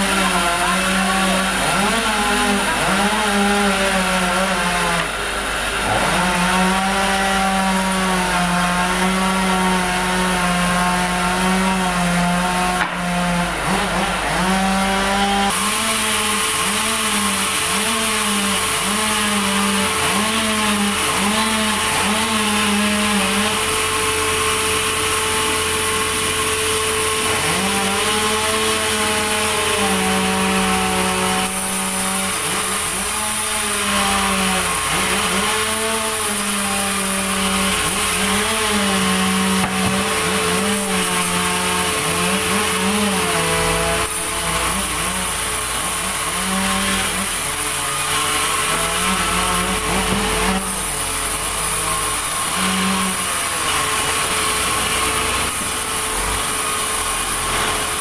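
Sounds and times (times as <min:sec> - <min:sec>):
band saw cutting log: 0:00.0 - 0:58.0.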